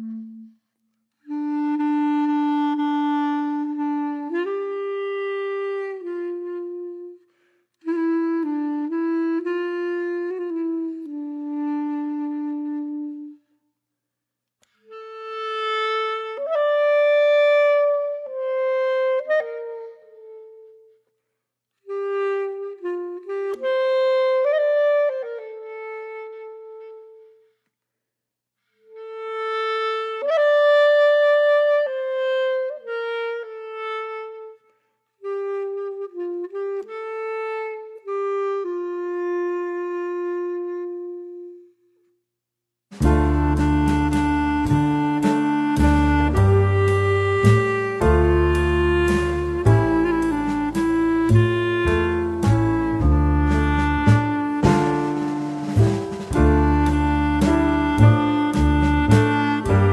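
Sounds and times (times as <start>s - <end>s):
solo wind instrument melody: 0.0s - 13.5s, 14.7s - 21.0s, 21.8s - 27.6s, 28.8s - 42.1s, 42.9s - 59.9s.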